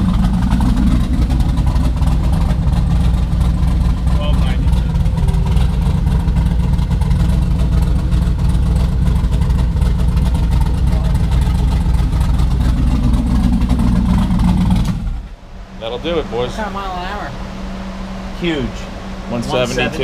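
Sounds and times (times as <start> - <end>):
engine at full throttle: 0.0 - 20.0.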